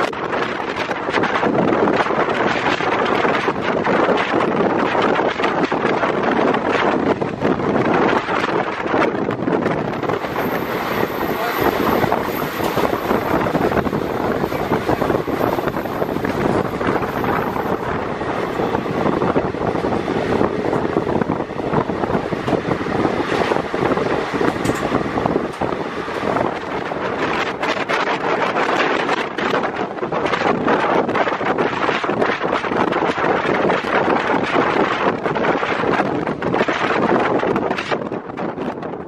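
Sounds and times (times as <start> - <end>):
oncoming train passing: 0.0 - 36.6
train wheels rumbling on rails: 0.0 - 39.0
wind rush buffeting microphone: 0.0 - 39.0.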